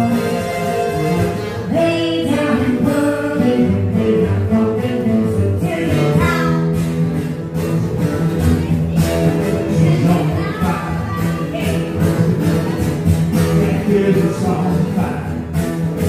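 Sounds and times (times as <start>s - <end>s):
acoustic guitar: 0.0s - 16.0s.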